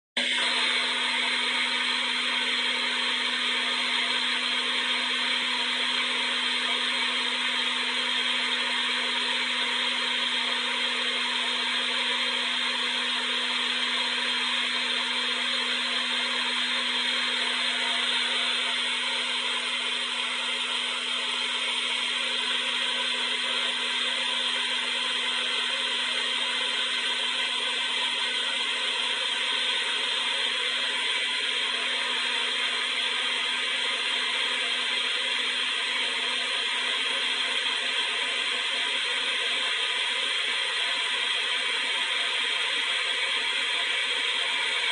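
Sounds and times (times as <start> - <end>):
hair dryer running: 0.2 - 44.9.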